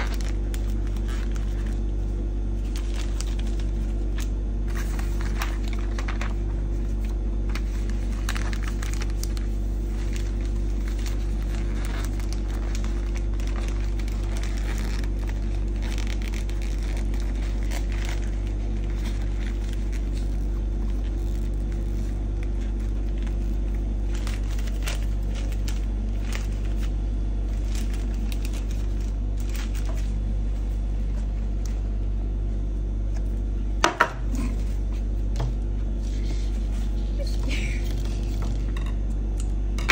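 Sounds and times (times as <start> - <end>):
wrapping paper rustling and crinkling: 0.0 - 32.0, 35.9 - 38.8
low electrical hum: 0.0 - 39.9.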